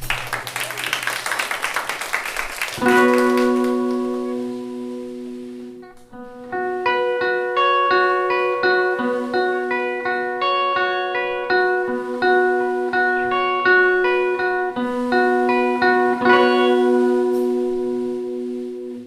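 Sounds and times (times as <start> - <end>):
guitar chord ringing: 2.8 - 19.0
guitar picking single notes: 2.8 - 19.0.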